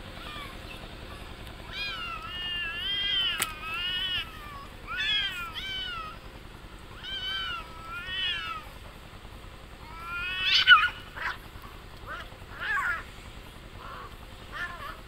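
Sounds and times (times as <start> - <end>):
cats yowling: 0.0 - 9.0, 9.8 - 13.1, 13.8 - 15.0.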